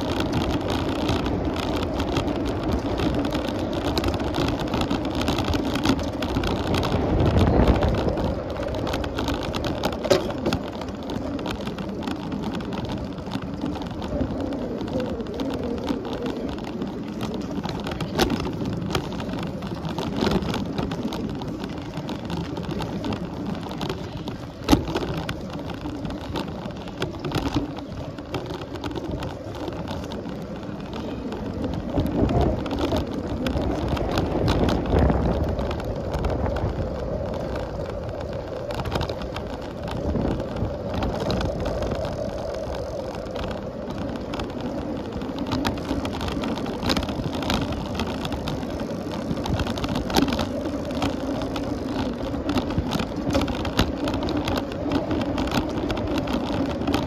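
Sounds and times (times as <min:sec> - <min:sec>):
bicycle tyres and air rushing: 0:00.0 - 0:57.0
bike clicks and rattles: 0:00.0 - 0:57.0.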